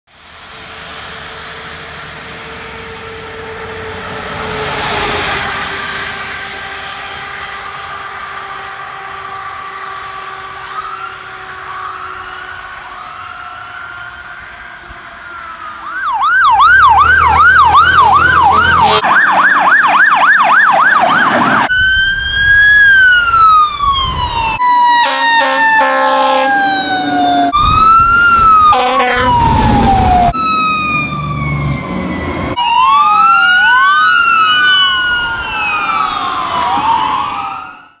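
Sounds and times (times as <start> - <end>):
emergency sirens wailing: 0.1 - 38.0
yelping siren sweeps: 1.4 - 38.0.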